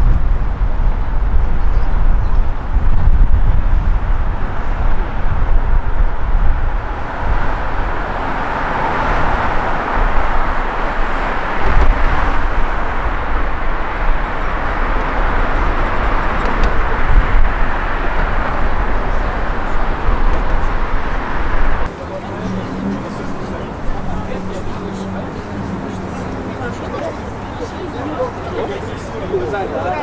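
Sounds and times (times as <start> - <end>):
road traffic roar: 0.0 - 30.0.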